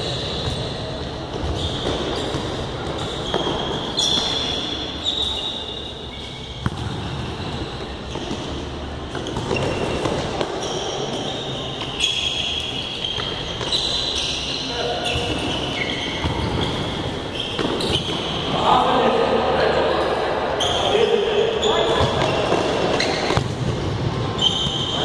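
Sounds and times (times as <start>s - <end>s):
sneakers squeaking: 0.0s - 25.0s.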